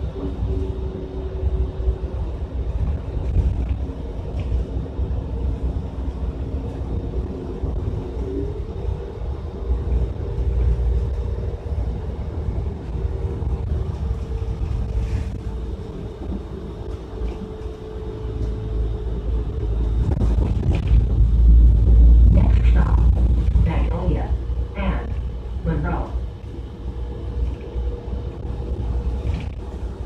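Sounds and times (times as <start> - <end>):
bus engine and road rumble: 0.0 - 30.0
drivetrain humming tones: 0.0 - 30.0.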